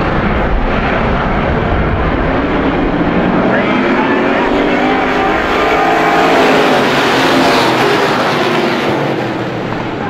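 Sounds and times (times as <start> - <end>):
race car engines at speed: 0.0 - 10.0.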